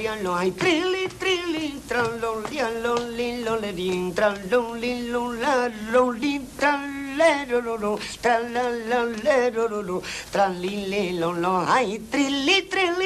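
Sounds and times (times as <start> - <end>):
man singing wordless syllables: 0.0 - 13.0.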